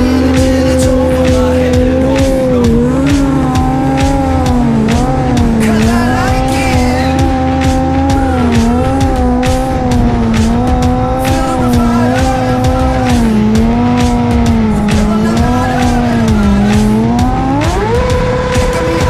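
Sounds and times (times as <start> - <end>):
motorcycle engine revving high: 0.0 - 19.0.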